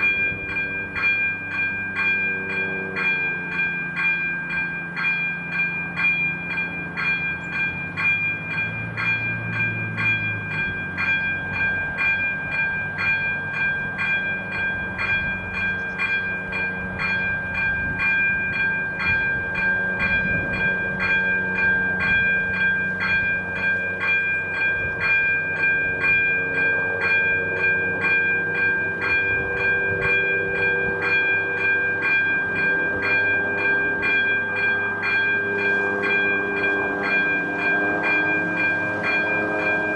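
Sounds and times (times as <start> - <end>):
level crossing warning bell: 0.0 - 39.9
train rumbling: 0.0 - 39.9.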